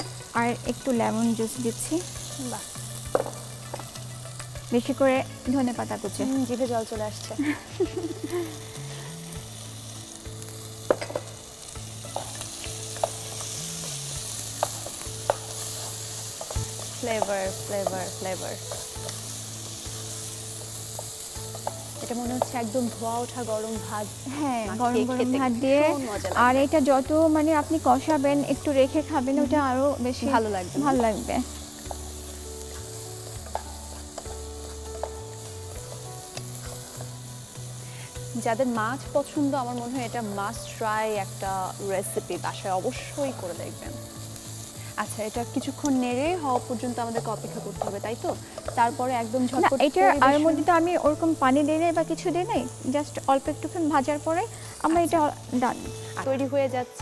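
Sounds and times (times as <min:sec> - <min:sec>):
curry sizzling in a pot: 0:00.0 - 0:57.0.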